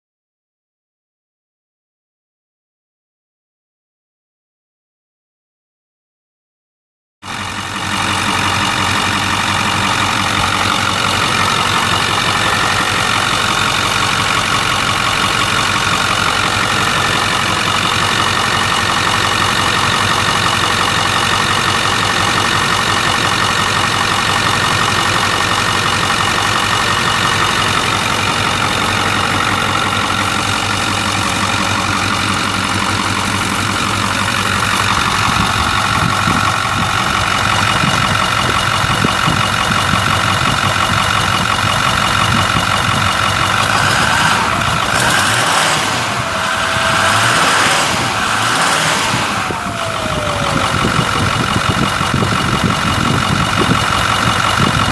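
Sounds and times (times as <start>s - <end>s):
diesel engine idling: 7.2s - 54.9s.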